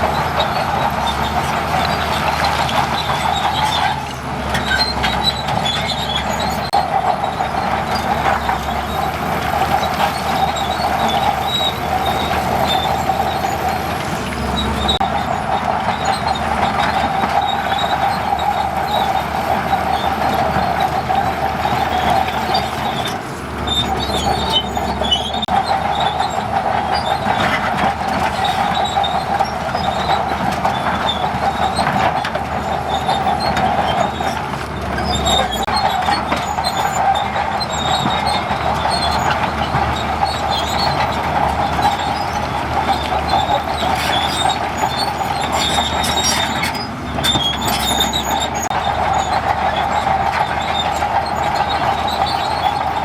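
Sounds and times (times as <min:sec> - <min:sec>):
bulldozer engine running: 0:00.0 - 0:53.0
steel tracks squealing and clanking: 0:00.0 - 0:53.0.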